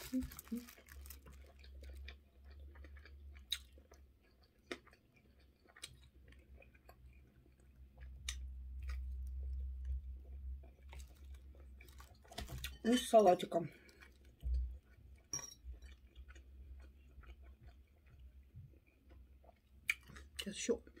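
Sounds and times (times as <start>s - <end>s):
person chewing sausage: 0.0s - 12.8s, 13.7s - 21.0s.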